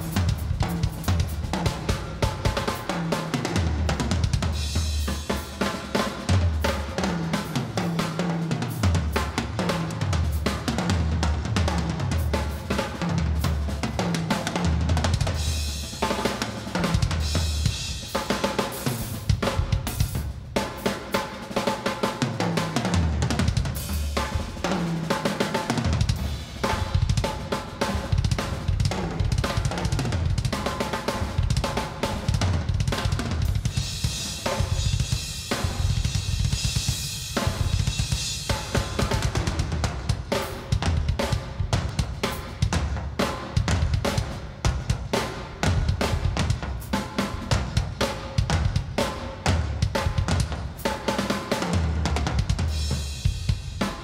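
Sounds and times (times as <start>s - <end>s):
drum kit played fast: 0.0s - 54.0s.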